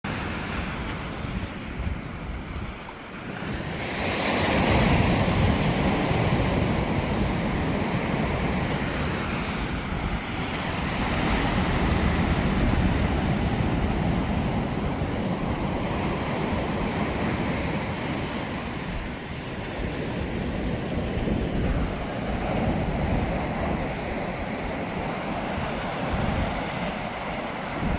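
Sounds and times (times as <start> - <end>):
wind on microphone: 0.1 - 27.9.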